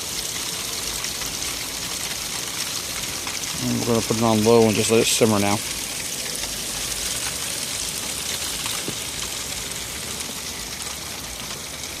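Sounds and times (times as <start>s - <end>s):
meat and vegetables sizzling in pan: 0.0s - 12.0s.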